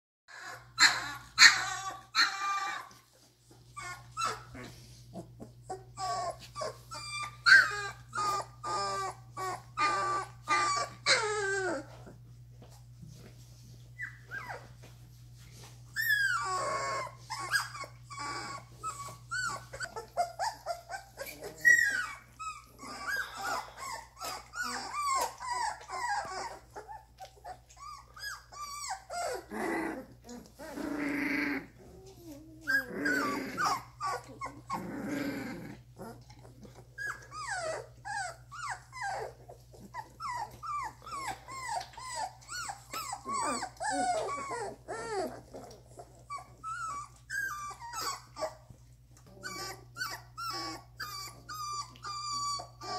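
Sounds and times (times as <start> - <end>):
puppies whining and whimpering: 0.3 - 52.9
puppy growls: 0.3 - 52.9.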